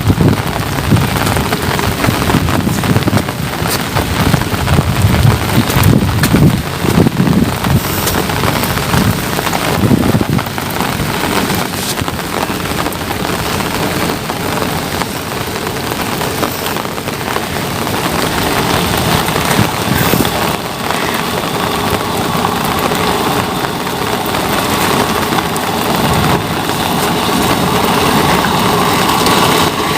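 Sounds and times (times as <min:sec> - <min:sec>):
low rumble: 0:00.0 - 0:29.9
rain falling: 0:00.0 - 0:29.9.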